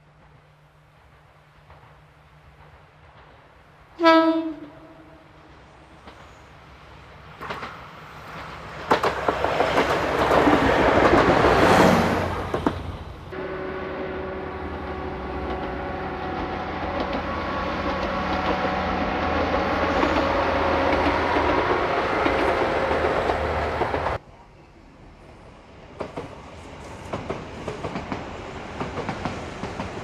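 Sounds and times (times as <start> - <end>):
train passing on rails: 0.0 - 30.0.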